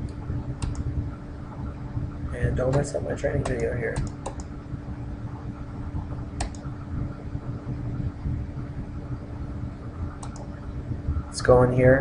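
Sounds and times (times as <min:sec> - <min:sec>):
computer fan humming: 0:00.0 - 0:12.0.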